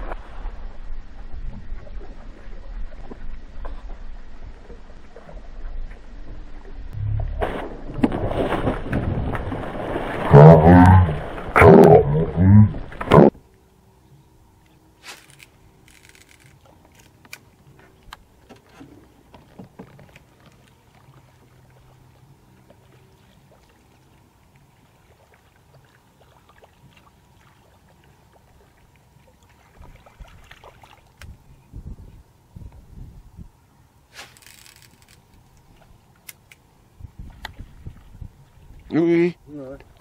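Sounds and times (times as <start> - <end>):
low steady hum: 0.0 - 34.1.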